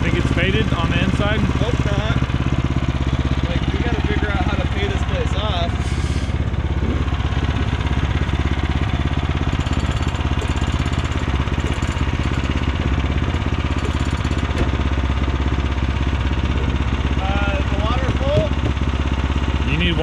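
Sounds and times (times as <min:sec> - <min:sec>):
gasoline engine running steadily: 0:00.0 - 0:20.0.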